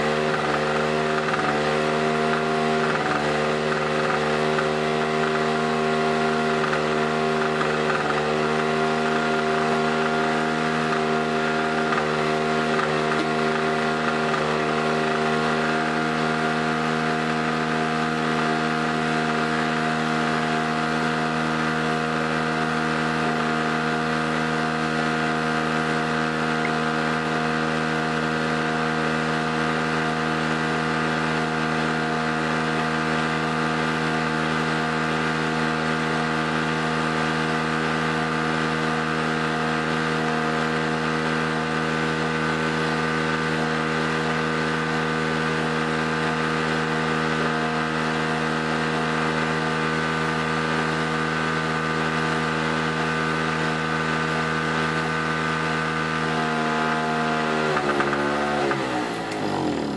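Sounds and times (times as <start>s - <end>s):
generator engine running: 0.0s - 59.9s.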